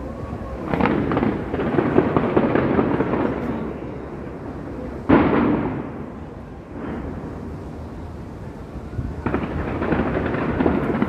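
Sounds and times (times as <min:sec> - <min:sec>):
fireworks bangs: 0:00.0 - 0:11.0
fireworks crackling pops: 0:00.0 - 0:11.0.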